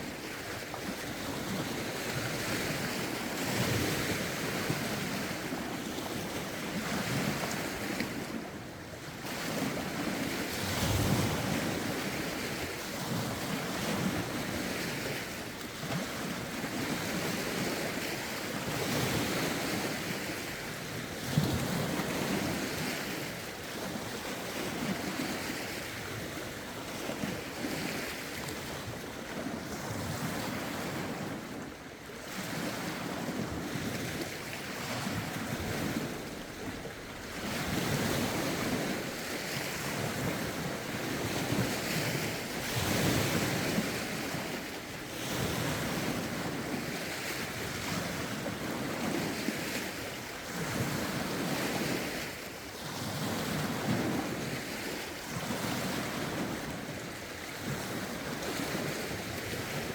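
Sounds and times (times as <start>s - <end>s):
lake waves lapping ashore: 0.0s - 59.9s.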